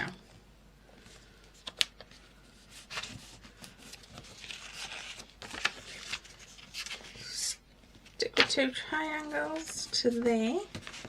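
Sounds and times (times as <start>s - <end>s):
paper rustling and crinkling: 1.0s - 11.0s.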